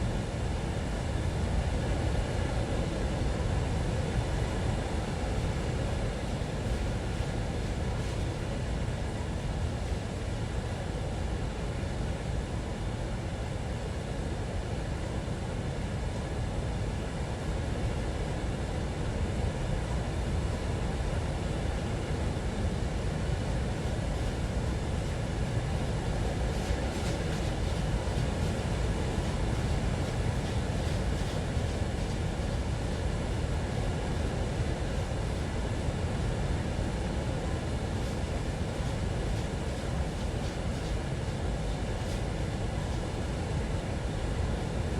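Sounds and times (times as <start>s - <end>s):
train rumbling by: 0.0s - 44.9s.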